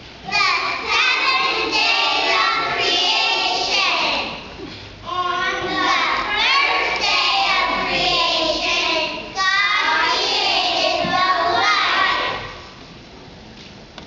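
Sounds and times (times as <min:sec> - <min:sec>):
children singing together: 0:00.2 - 0:12.8.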